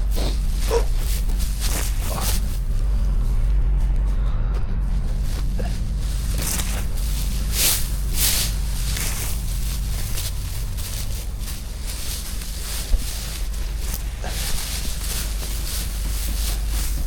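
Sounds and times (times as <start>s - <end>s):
steady low rumble: 0.0s - 17.0s
straw rustling: 0.0s - 17.0s.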